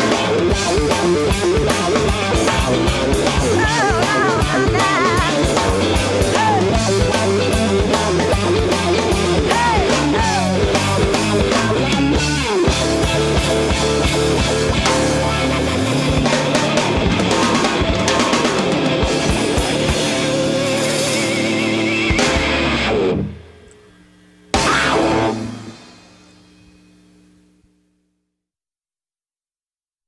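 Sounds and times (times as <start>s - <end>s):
electric lead guitar soloing: 0.0s - 23.5s, 24.5s - 25.9s
bass: 0.0s - 27.6s
drums: 0.0s - 27.9s.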